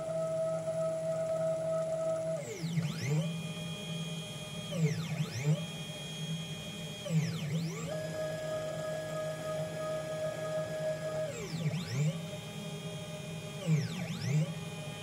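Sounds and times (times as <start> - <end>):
stepper motor whine: 0.0 - 15.0.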